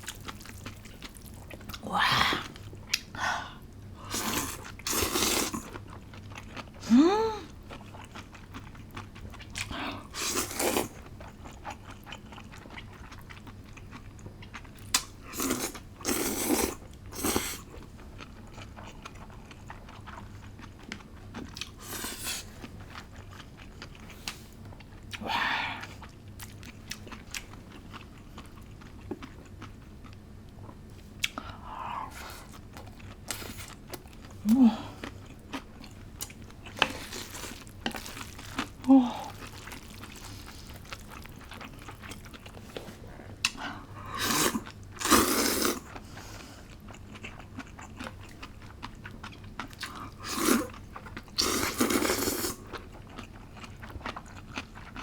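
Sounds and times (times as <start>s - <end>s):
crunching and chewing cucumber: 0.0s - 3.1s, 7.6s - 21.8s, 26.0s - 31.4s, 32.5s - 55.0s.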